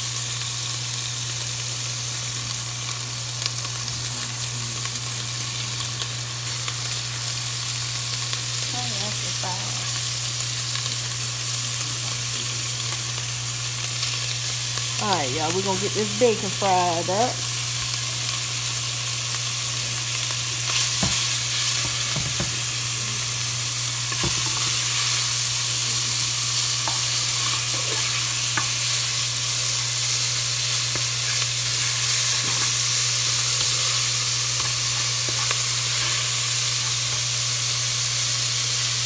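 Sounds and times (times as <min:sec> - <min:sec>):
bacon sizzling: 0:00.0 - 0:39.0.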